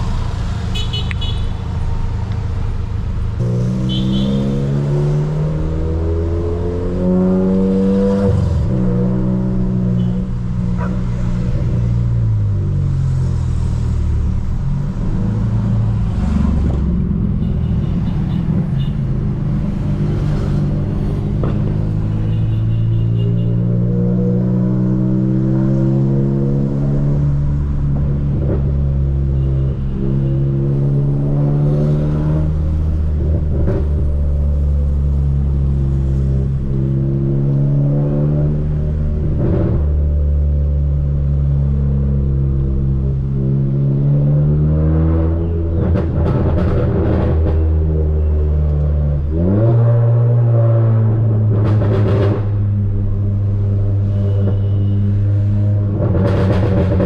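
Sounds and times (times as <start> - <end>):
car engine droning and revving: 0.0 - 57.0.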